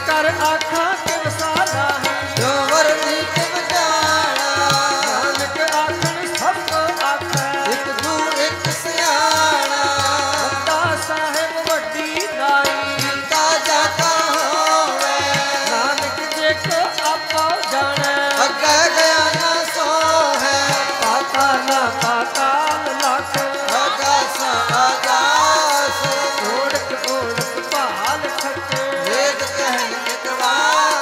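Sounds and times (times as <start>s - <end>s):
harmonium reeds: 0.0s - 31.0s
tabla beat: 0.0s - 31.0s
voices singing: 0.0s - 31.0s.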